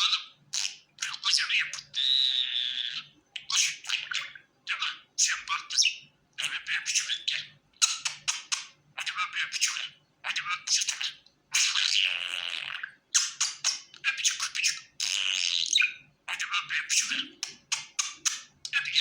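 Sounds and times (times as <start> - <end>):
budgerigar chattering: 0.0 - 19.0.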